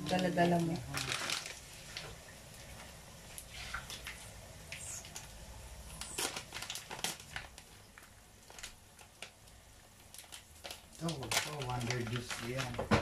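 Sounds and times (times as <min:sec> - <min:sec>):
oil crackling and popping: 0:00.0 - 0:13.0.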